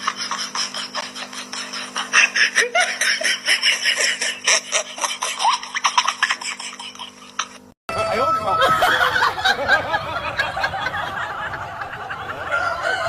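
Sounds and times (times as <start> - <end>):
people laughing and giggling: 0.0 - 13.0.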